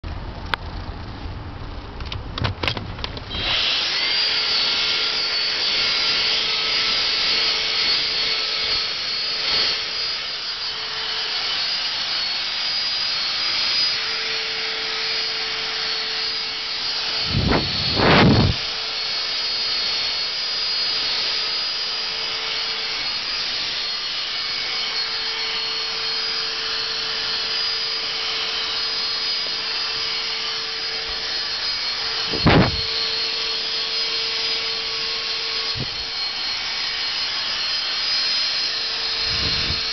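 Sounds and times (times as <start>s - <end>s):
handheld vacuum whining: 2.6s - 39.9s.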